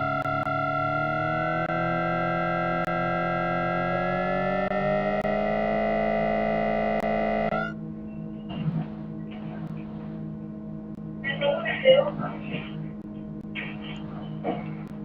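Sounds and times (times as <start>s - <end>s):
electric train inverter whine: 0.0s - 15.0s
low steady hum: 0.0s - 15.0s.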